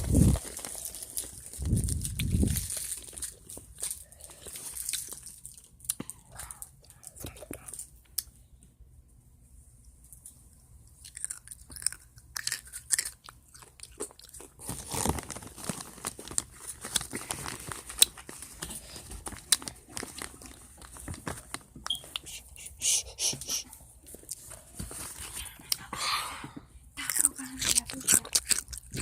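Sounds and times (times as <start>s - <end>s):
person chewing and crunching: 0.0s - 8.4s, 10.8s - 25.9s, 27.0s - 29.0s.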